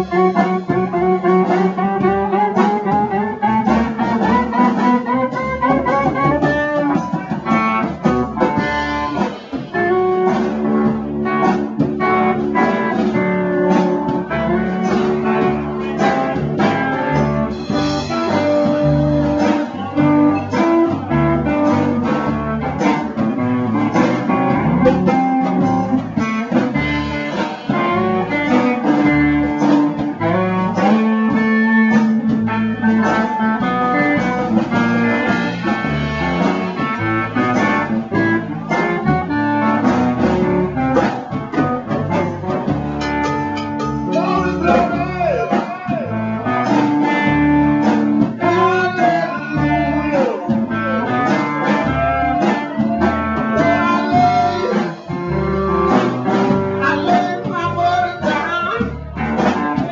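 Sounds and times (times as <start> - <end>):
live blues band with guitar: 0.0 - 59.9.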